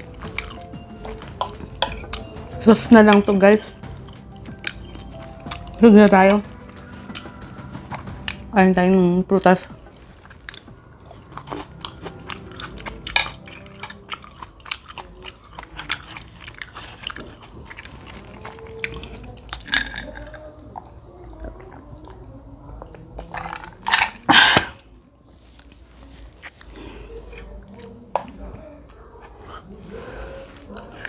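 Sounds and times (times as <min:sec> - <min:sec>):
grapes being chewed: 0:00.0 - 0:31.0.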